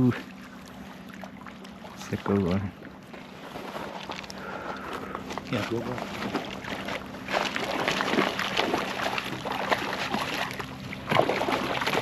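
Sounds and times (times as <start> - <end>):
steady low hum: 0.0 - 12.0
water sloshing and splashing: 0.0 - 12.0.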